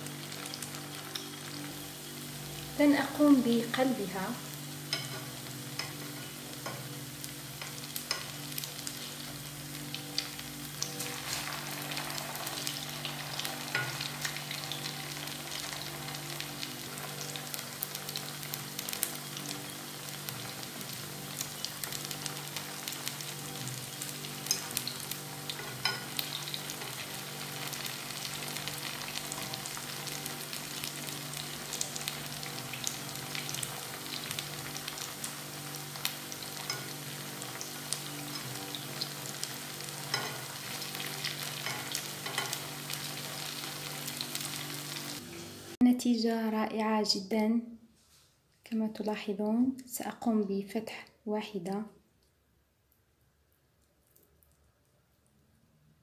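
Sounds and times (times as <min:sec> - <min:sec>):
food sizzling in hot oil: 0:00.0 - 0:45.8.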